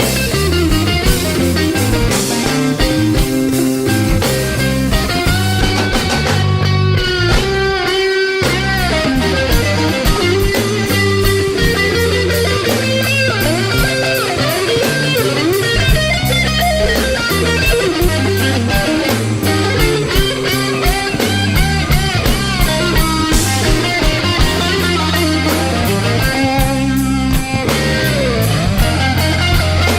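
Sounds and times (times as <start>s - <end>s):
bass line: 0.0s - 29.9s
electric guitar lead: 0.0s - 29.9s
steady drum beat: 0.0s - 29.9s.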